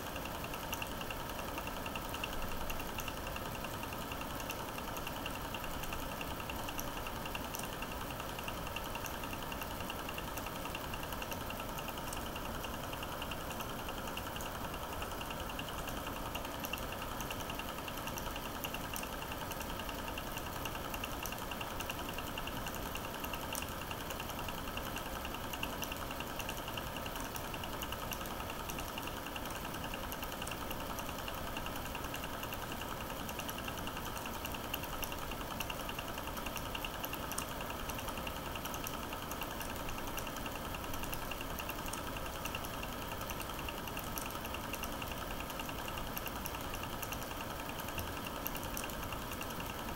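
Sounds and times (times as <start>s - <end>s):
film projector clattering: 0.0s - 49.9s.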